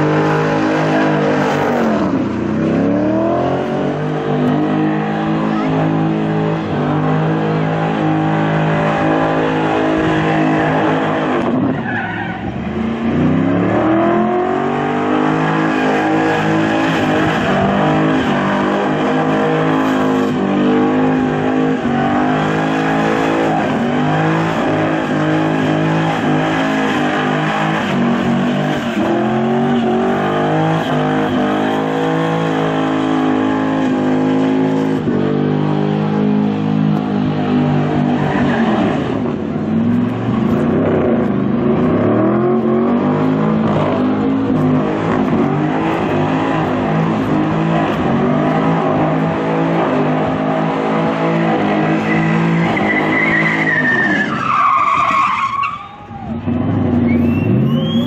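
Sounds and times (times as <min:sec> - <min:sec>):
car engine revving high: 0:00.0 - 0:55.6.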